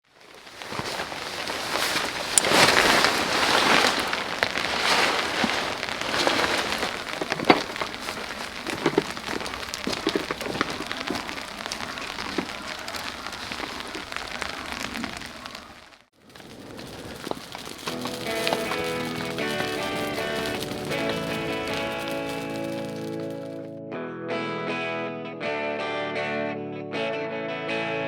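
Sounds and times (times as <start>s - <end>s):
steady rain falling: 0.0s - 23.6s
raindrops striking close by: 0.1s - 23.6s.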